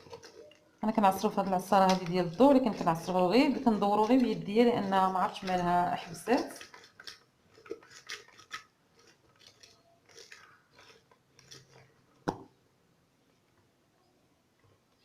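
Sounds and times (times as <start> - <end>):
lemon squelching on juicer cone: 0.0 - 12.2.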